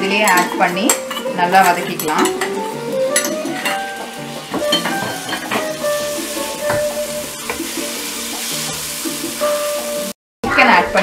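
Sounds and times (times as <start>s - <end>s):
spice paste sizzling in hot oil: 0.0s - 10.2s.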